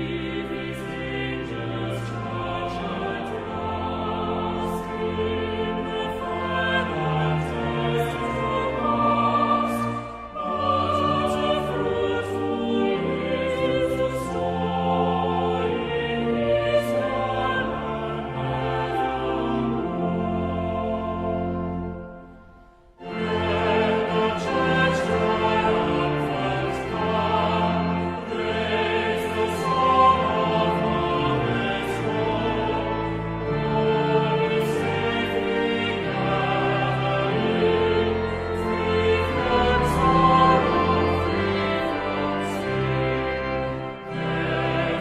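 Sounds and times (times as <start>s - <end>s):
congregation singing a hymn: 0.0s - 45.0s
instrumental accompaniment: 0.0s - 45.0s
organ: 0.0s - 45.0s.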